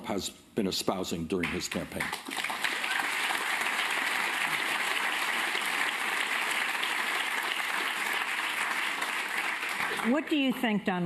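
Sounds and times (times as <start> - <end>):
large audience applauding: 1.4 - 10.4.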